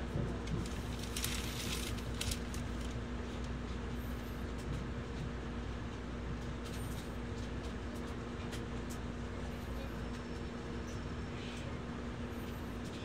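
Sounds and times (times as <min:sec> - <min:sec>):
train cabin rumble and hum: 0:00.0 - 0:13.0.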